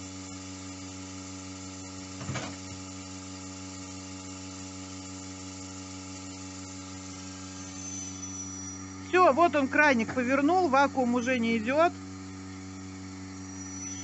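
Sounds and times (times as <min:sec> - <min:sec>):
vacuum pump humming: 0:00.0 - 0:14.0.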